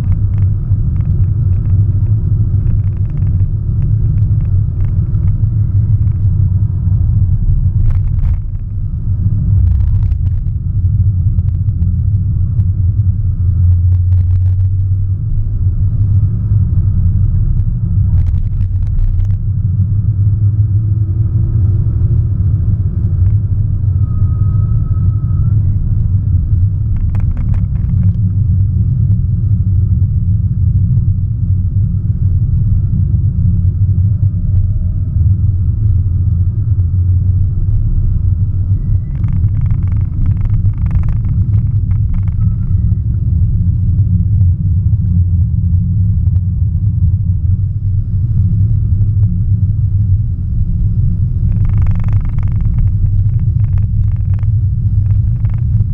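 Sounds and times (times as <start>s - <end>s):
low engine rumble: 0.0s - 55.9s
road noise: 0.0s - 55.9s.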